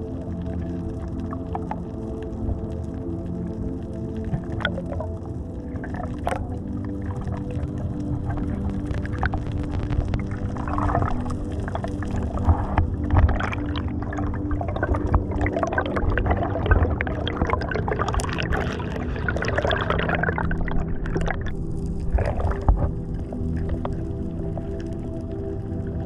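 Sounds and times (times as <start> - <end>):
soft sustained background music: 0.0 - 26.0
water sloshing and bubbling: 0.0 - 26.0.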